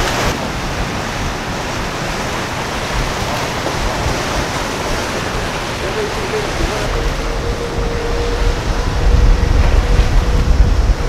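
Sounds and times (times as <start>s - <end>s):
water rushing from boat hull: 0.0s - 11.0s.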